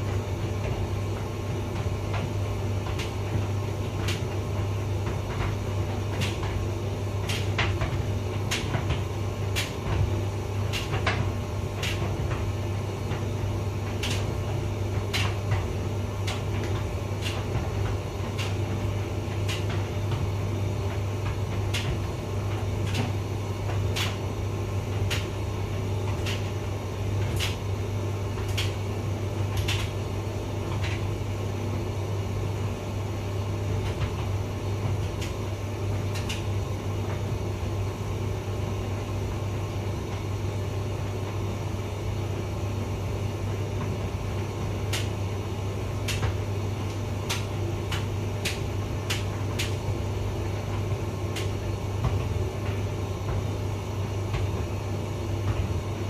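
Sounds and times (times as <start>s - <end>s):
tumble dryer humming: 0.0s - 56.0s.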